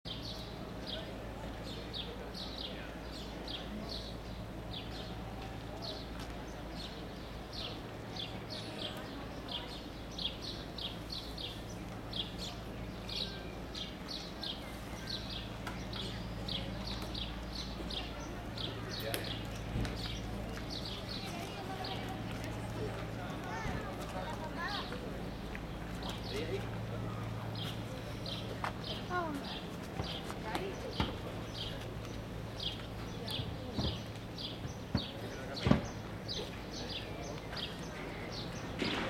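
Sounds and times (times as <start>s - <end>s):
small birds chirping: 0.1s - 39.0s.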